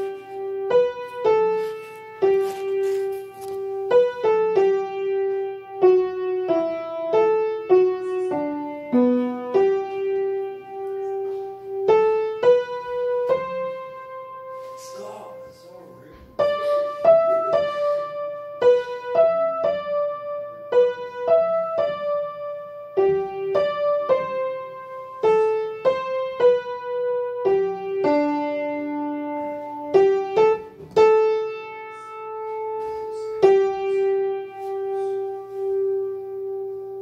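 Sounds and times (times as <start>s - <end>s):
keyboard melody: 0.0s - 37.0s.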